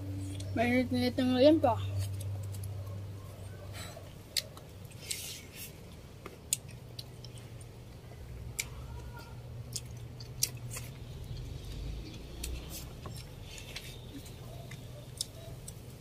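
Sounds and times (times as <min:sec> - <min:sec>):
low steady hum: 0:00.0 - 0:16.0
chewing: 0:01.9 - 0:16.0.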